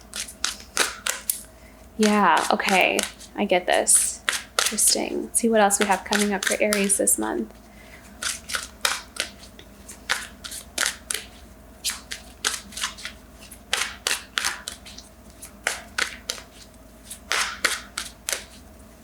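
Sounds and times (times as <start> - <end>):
cards snapping while shuffled: 0.0 - 3.3, 4.0 - 5.0, 5.8 - 7.1, 8.1 - 18.6.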